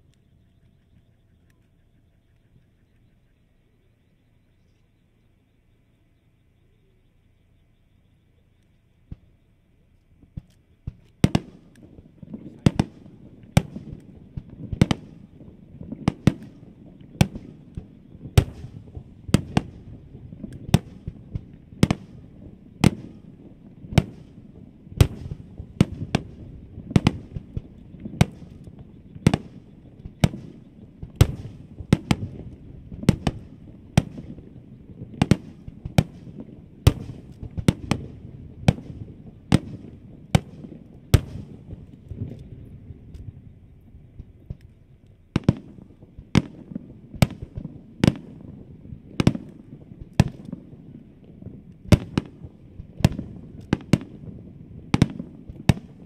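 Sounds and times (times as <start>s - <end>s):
low rumble of echoes: 0.0s - 56.0s
fireworks bursting: 10.2s - 56.0s.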